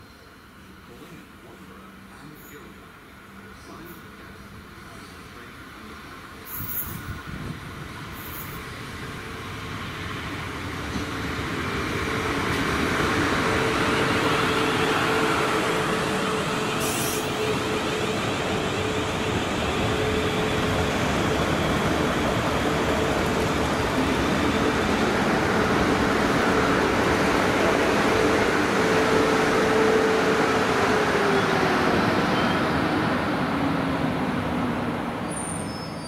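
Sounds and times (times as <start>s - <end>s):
train wheels rumbling on rail: 6.4s - 36.0s.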